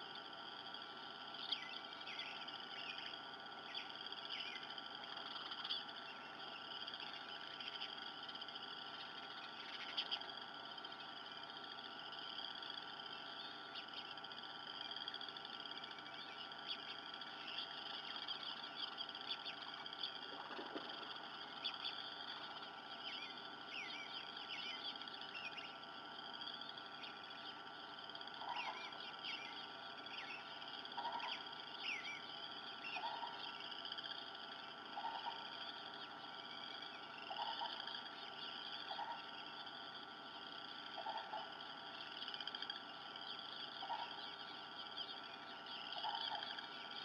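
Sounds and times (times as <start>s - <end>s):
frog chorus trilling: 0.0s - 47.0s
short low frog calls: 0.0s - 47.0s.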